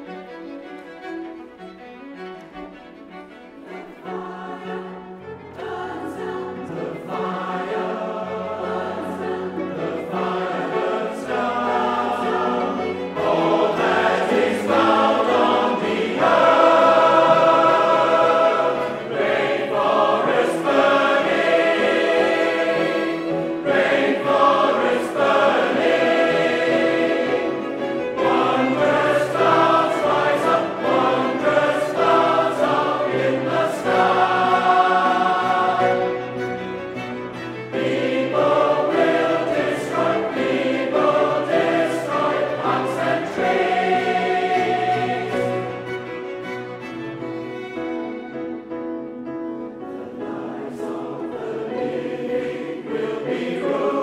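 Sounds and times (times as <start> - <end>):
large choir singing: 0.0 - 54.0
string accompaniment: 0.0 - 54.0.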